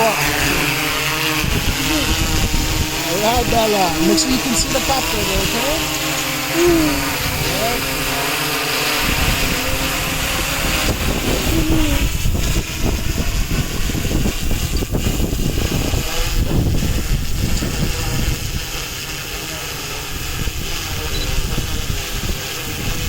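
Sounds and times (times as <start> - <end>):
quadcopter propellers humming: 0.0 - 23.0
gusty wind on microphone: 0.2 - 6.0, 6.6 - 19.4, 20.0 - 23.0.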